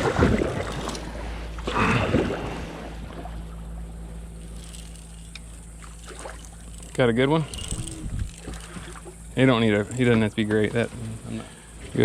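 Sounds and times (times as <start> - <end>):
boat motor hum: 0.0 - 12.0.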